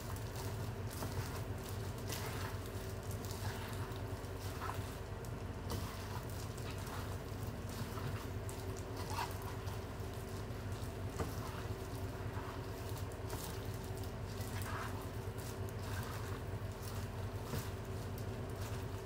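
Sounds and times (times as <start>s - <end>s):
steady low hum: 0.0s - 19.0s
wet squelching of mixed chicken: 0.4s - 19.0s.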